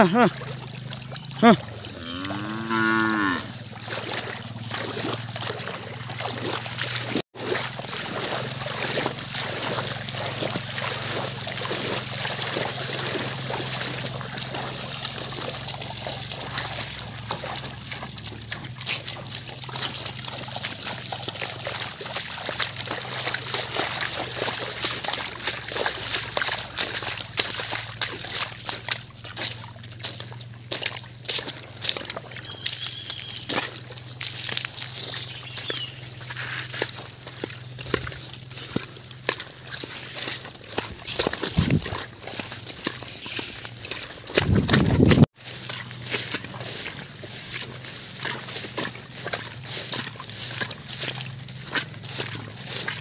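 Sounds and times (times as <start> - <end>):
hooves and feet splashing in water: 0.0 - 53.0.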